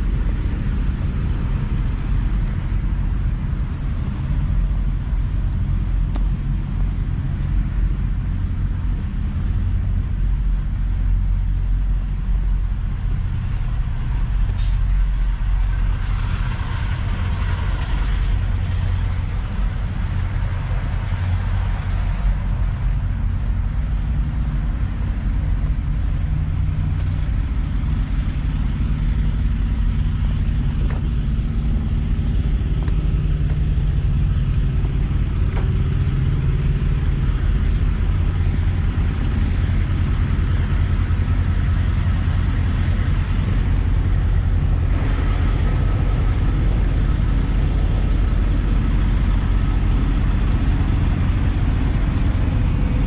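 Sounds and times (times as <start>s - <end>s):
diesel truck engines idling: 0.0s - 53.0s
faint high whine: 0.0s - 53.0s.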